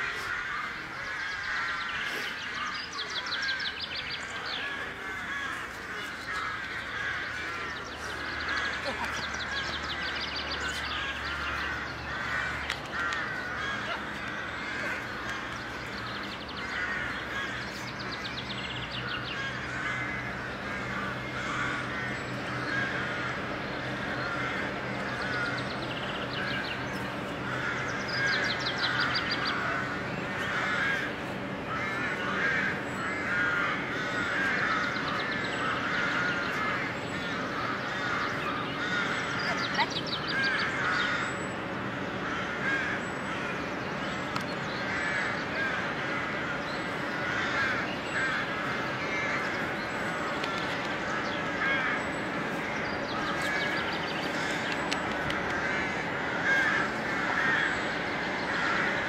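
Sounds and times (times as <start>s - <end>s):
crows cawing: 0.0s - 59.0s.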